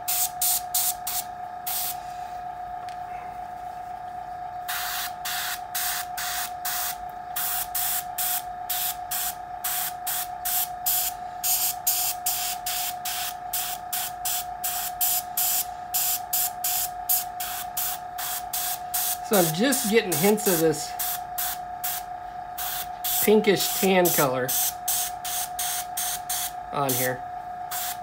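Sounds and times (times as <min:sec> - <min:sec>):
airbrush spraying in hissing bursts: 0:04.7 - 0:28.0.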